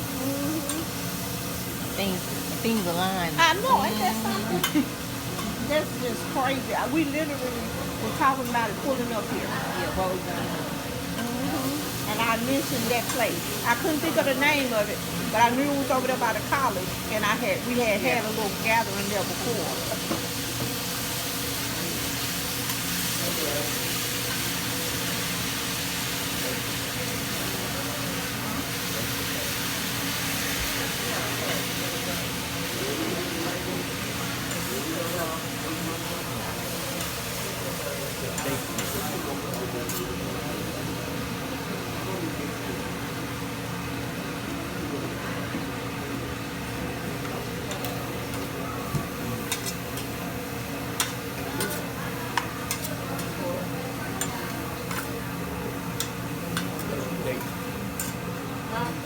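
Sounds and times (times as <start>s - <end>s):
steady mechanical hum: 0.0s - 59.0s
faint background talk: 3.4s - 59.0s.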